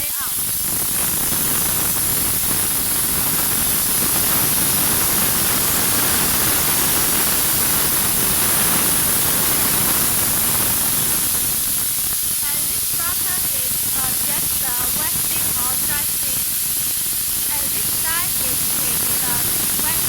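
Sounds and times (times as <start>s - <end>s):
steam gun hissing: 0.0s - 20.0s.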